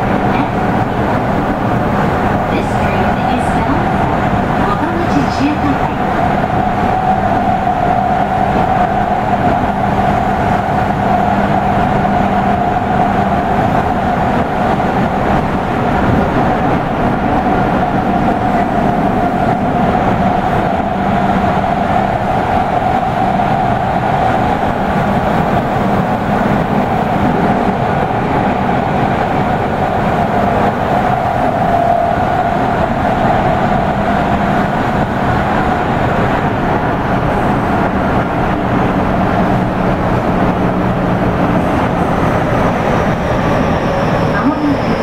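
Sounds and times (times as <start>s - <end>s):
train rumbling through tunnel: 0.0s - 45.0s.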